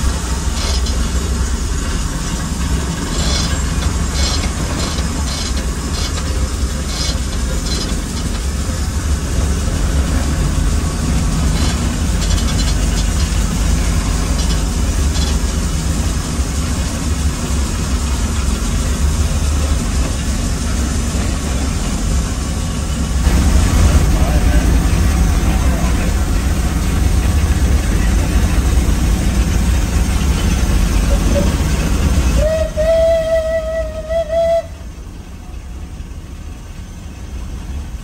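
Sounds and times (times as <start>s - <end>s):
train low rumble: 0.0s - 38.0s.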